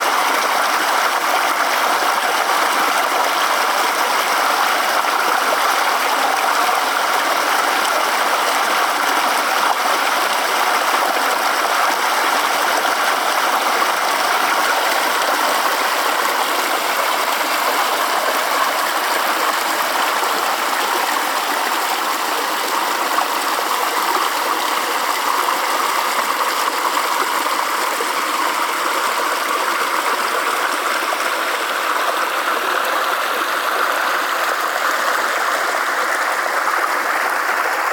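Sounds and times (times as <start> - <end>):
small waterfall splashing: 0.0 - 37.9.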